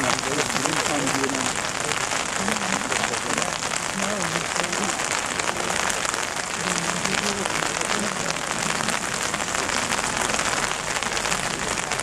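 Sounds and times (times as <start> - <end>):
faint voices: 0.0 - 12.0
steady rain falling: 0.0 - 12.0.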